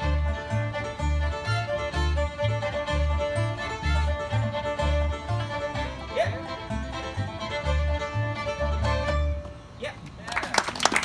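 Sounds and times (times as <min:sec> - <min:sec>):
banjo picking: 0:00.0 - 0:09.6
fiddle holding long notes: 0:00.0 - 0:09.7
upright bass notes: 0:00.0 - 0:09.8.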